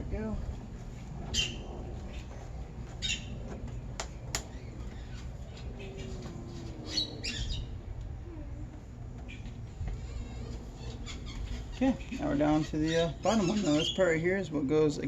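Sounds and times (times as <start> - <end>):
steady low rumble: 0.0 - 13.2
wild birds chirping: 0.2 - 14.5.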